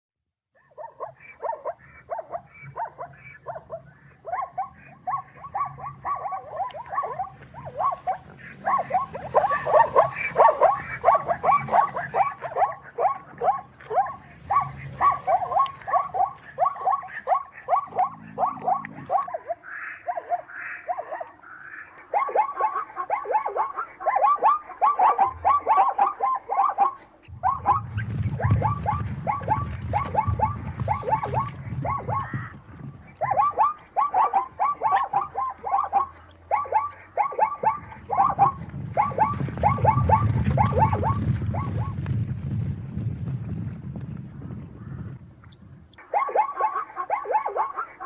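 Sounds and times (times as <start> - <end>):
zebra barking: 0.6 - 42.0, 46.0 - 48.0.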